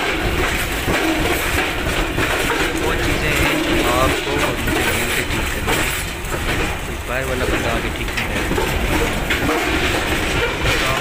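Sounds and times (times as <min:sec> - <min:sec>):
freight train rumbling past: 0:00.0 - 0:11.0
metallic clanking of train wheels: 0:00.0 - 0:11.0.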